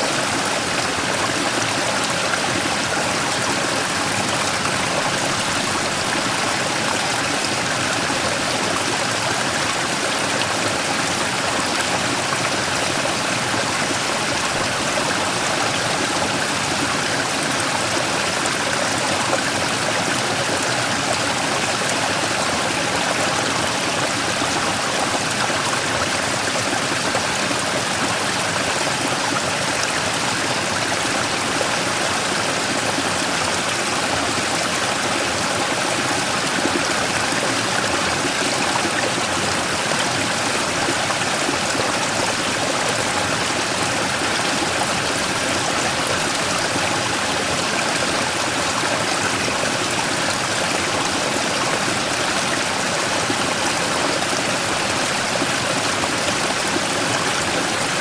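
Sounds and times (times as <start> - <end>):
stream rushing over rock: 0.0 - 58.0.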